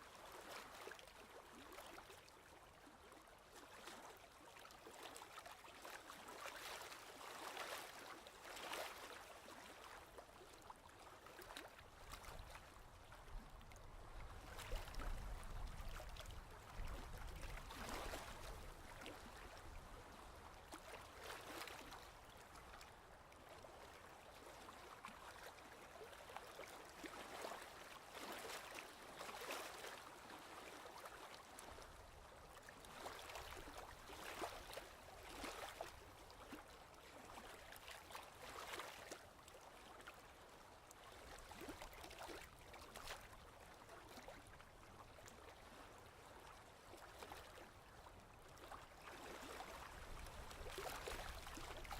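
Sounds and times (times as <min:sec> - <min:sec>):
faint ocean waves lapping: 0:00.2 - 0:51.9.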